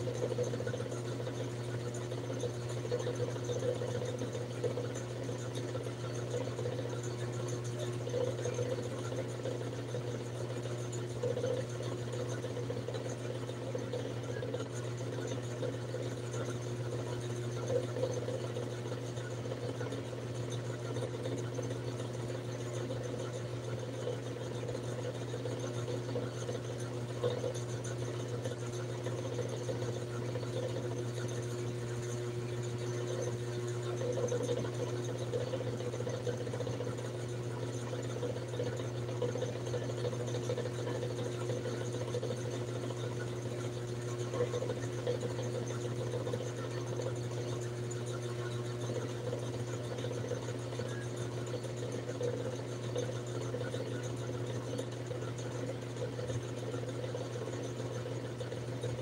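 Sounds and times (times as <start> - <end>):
small motor humming: 0.0 - 59.0.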